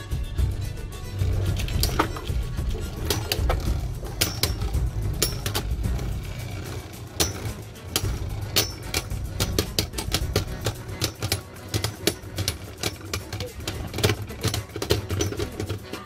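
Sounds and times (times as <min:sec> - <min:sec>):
spinning tops clashing: 0:01.2 - 0:16.0.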